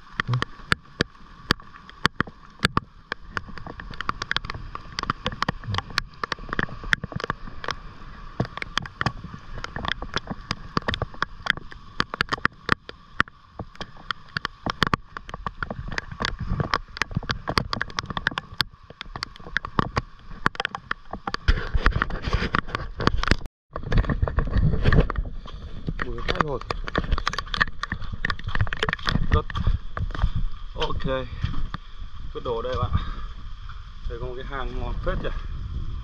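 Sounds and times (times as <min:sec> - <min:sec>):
raindrops striking water: 0:00.0 - 0:24.4, 0:25.8 - 0:35.4
sloshing water: 0:00.0 - 0:34.1.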